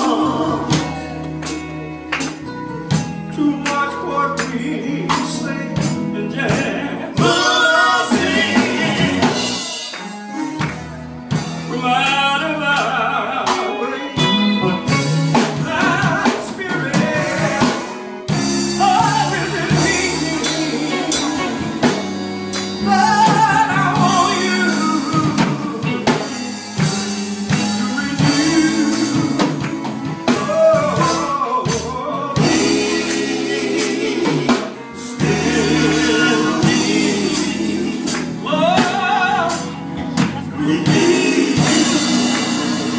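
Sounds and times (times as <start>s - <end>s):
instrumental backing: 0.0s - 42.9s
voices singing gospel: 0.0s - 42.9s.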